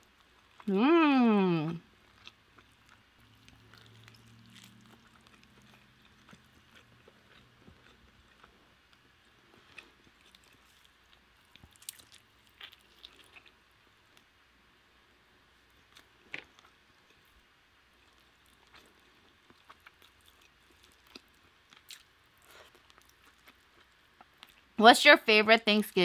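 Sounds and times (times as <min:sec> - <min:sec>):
person chewing: 0:00.0 - 0:14.2, 0:15.8 - 0:24.7.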